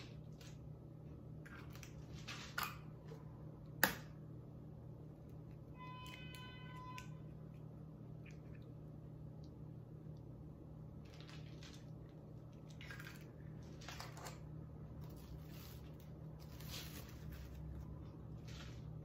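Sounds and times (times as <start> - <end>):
eggs cracking and shells handled: 0.0 - 4.4, 5.2 - 19.0.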